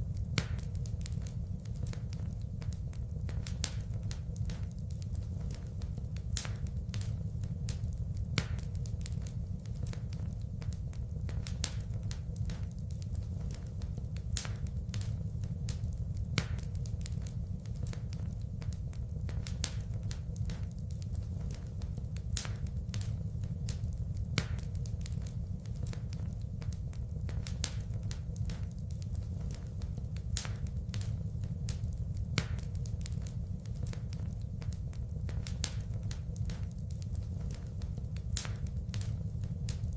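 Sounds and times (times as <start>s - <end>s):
low rumble of burning logs: 0.0s - 39.9s
sharp pops and snaps: 0.0s - 39.9s
wood fire crackling: 0.0s - 39.9s.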